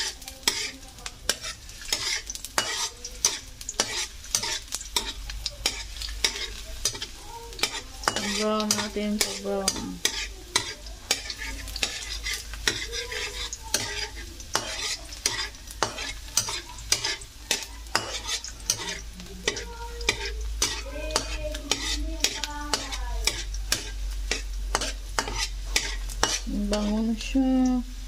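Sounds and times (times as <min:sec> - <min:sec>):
metal ladle scraping a wok: 0:00.0 - 0:27.2
garlic sizzling in hot oil: 0:00.0 - 0:28.0.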